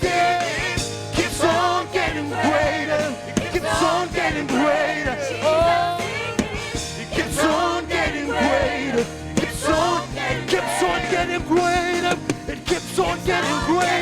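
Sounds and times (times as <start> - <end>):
band playing: 0.0 - 14.0
steady drum beat: 0.0 - 14.0
voices singing: 0.0 - 14.0.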